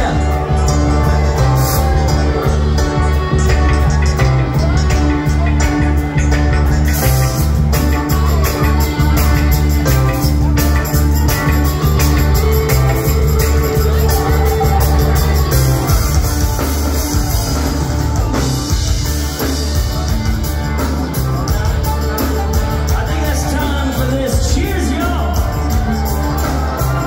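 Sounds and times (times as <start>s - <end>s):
live band playing loud music: 0.0s - 27.0s.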